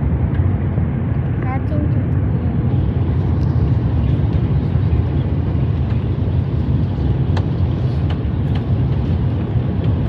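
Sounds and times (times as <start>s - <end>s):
airliner cabin low rumble: 0.0s - 10.0s.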